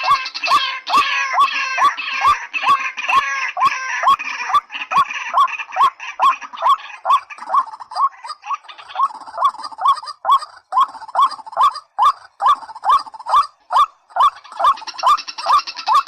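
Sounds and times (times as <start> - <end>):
rail bird calling: 0.0 - 16.0.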